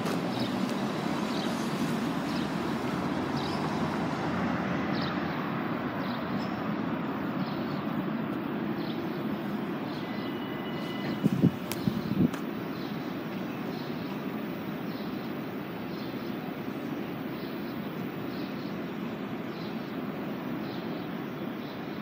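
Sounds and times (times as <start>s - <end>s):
electric bus driving past: 0.0s - 22.0s.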